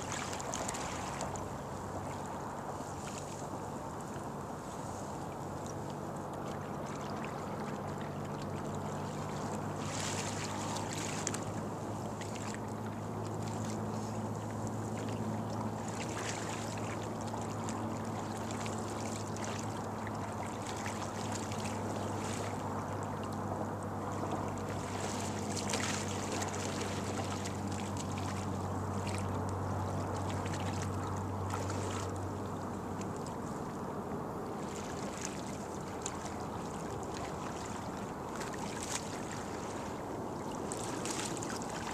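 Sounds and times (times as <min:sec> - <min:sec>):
paddle splashing in water: 0:00.0 - 0:41.9
steady low hum: 0:00.0 - 0:41.9.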